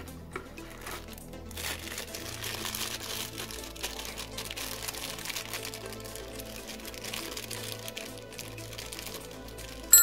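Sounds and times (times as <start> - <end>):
plastic bag crinkling: 0.6 - 9.9.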